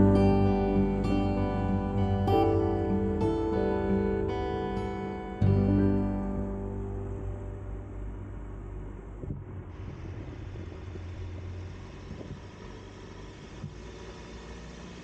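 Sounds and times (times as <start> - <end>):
van engine rumble: 0.0 - 15.0.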